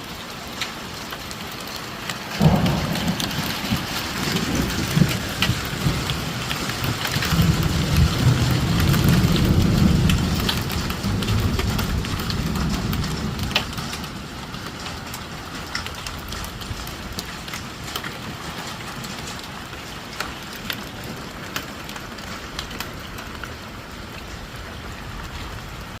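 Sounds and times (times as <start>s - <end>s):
hailstones ticking on hard surfaces: 0.0s - 26.0s
rain falling: 0.0s - 26.0s.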